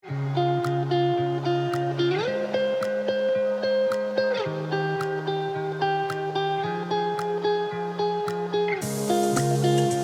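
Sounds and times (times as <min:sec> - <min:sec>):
music with chords over light beat: 0:00.1 - 0:10.0.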